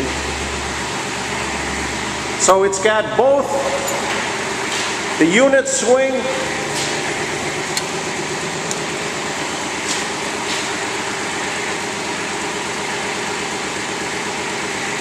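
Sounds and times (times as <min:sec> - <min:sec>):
diesel excavator idling: 0:00.0 - 0:15.0.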